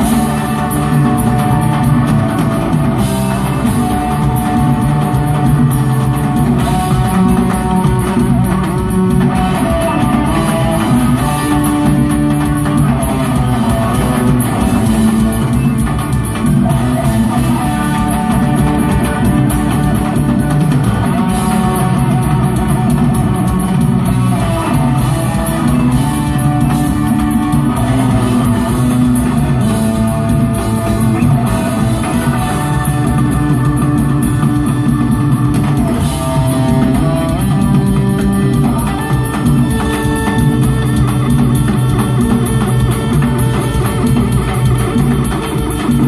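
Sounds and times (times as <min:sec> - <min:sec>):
electric guitar lines: 0:00.0 - 0:46.0
steady drum kit: 0:00.0 - 0:46.0.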